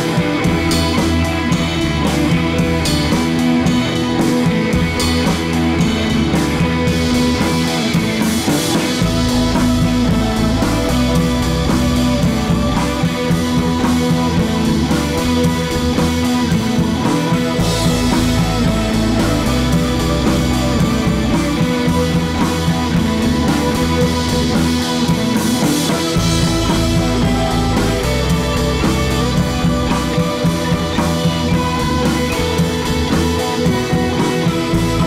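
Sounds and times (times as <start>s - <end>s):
rock music: 0.0s - 35.0s.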